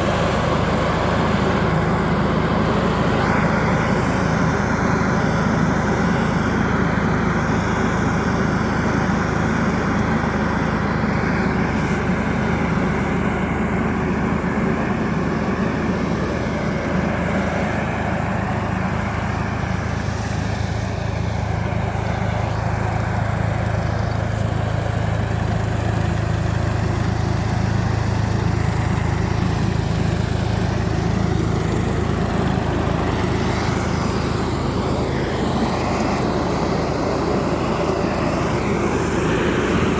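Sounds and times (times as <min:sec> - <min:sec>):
sprayer hissing: 0:00.0 - 0:39.9
tractor engine droning: 0:00.0 - 0:39.9.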